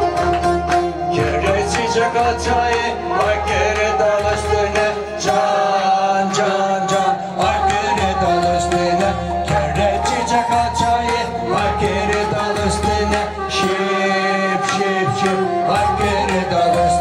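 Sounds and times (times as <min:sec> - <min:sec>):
end-blown flute: 0:00.0 - 0:05.7, 0:06.3 - 0:17.0
keyboard: 0:00.0 - 0:17.0.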